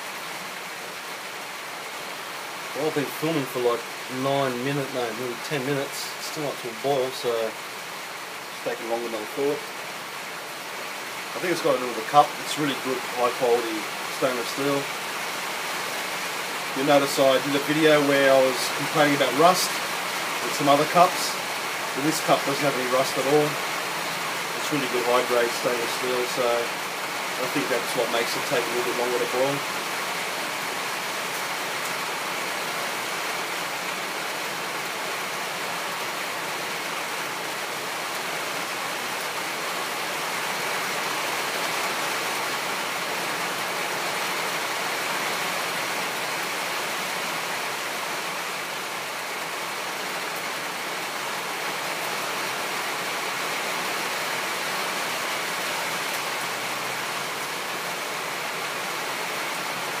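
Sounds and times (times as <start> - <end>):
rain hissing: 0.0 - 60.0.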